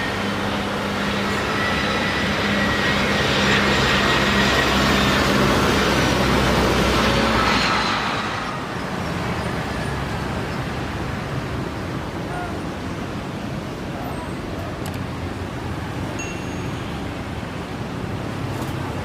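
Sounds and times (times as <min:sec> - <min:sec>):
distant traffic hum: 0:00.0 - 0:19.0
jet engines passing close: 0:00.0 - 0:19.0.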